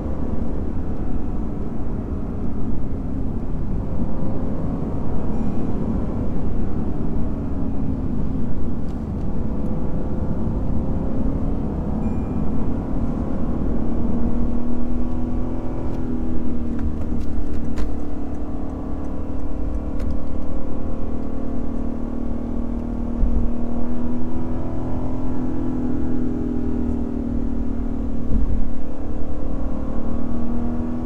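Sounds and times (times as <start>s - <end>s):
car engine running: 0.0s - 31.0s
road and tyre rumble: 0.0s - 31.0s.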